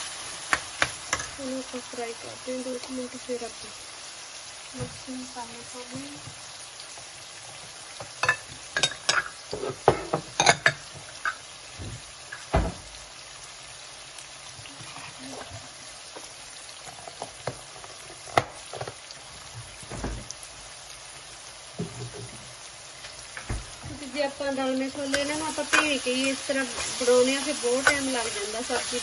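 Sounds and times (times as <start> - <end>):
food sizzling in oil: 0.0 - 29.0
oil popping and crackling: 4.7 - 13.2, 13.8 - 29.0.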